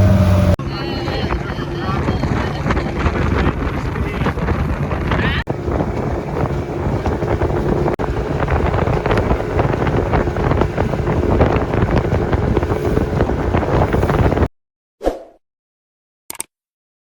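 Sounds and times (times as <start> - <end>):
outboard motor running: 0.0 - 14.5
wind buffeting microphone: 0.0 - 14.5.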